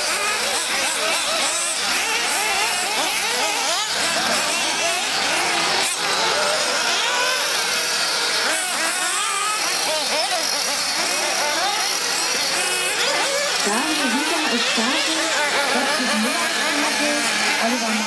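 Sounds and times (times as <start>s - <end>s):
rc car engines buzzing: 0.0s - 18.0s.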